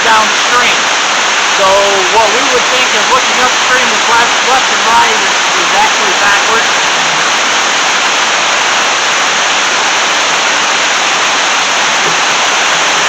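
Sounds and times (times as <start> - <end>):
water rushing at a dam: 0.0 - 13.0.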